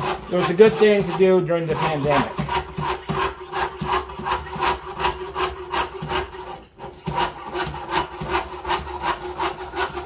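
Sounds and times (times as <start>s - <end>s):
saw blade cutting sheet metal: 0.0s - 10.0s.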